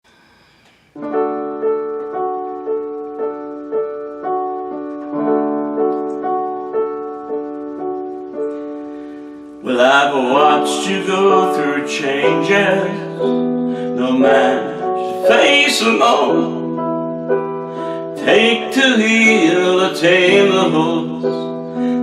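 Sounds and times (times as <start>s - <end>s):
piano playing sustained notes: 1.0s - 22.0s.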